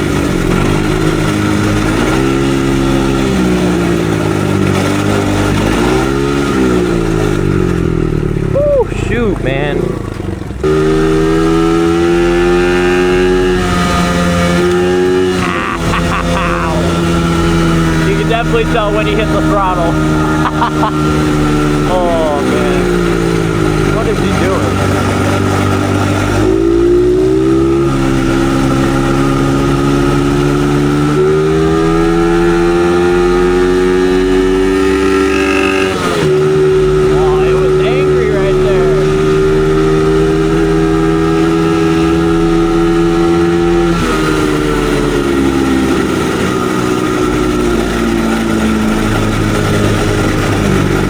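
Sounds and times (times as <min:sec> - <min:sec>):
dirt bike engine revving high: 0:00.0 - 0:51.0.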